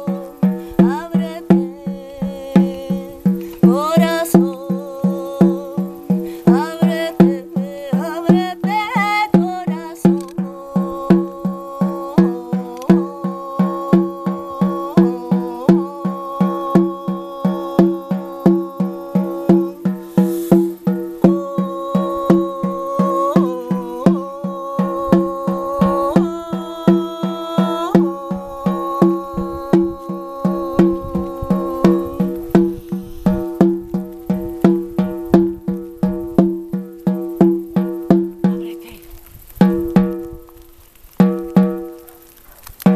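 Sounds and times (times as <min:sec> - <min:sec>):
woman singing long notes: 0:00.0 - 0:37.4
frame drum beating: 0:00.0 - 0:39.0, 0:39.6 - 0:40.6, 0:41.2 - 0:42.1.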